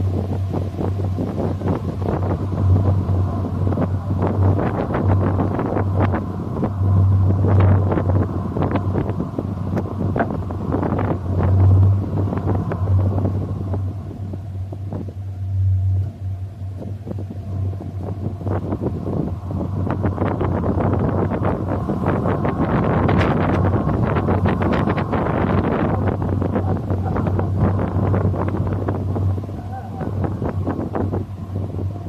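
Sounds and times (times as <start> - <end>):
vehicle in motion drone: 0.0 - 32.0
wind buffeting microphone: 0.0 - 32.0.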